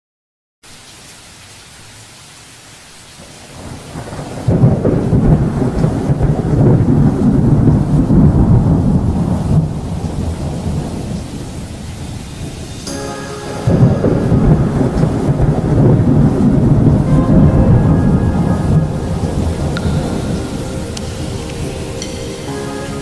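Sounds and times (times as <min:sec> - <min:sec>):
heavy rain hissing: 0:00.6 - 0:23.0
rolling thunder: 0:03.3 - 0:23.0.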